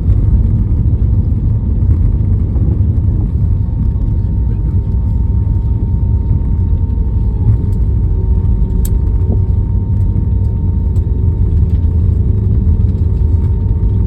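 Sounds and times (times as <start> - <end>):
airliner cabin rumble: 0.0 - 14.0
faint constant whine: 0.0 - 14.0.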